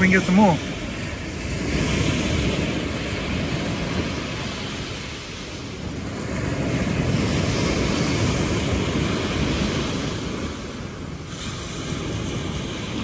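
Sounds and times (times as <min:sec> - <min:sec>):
sea surf washing on beach: 0:00.0 - 0:13.0
wind rumbling on microphone: 0:00.0 - 0:13.0.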